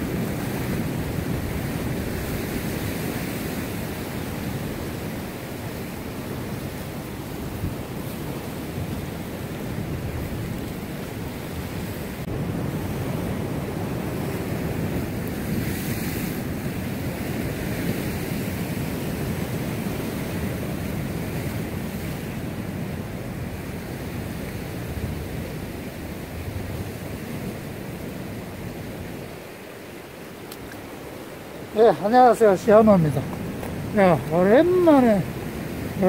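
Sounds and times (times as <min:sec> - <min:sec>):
wind on microphone: 0:00.0 - 0:29.6
surf washing over rocks: 0:00.0 - 0:36.0.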